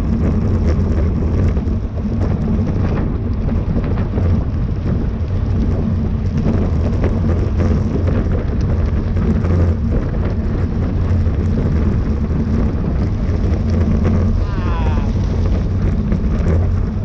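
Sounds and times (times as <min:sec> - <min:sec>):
wind buffeting on microphone: 0:00.0 - 0:17.0.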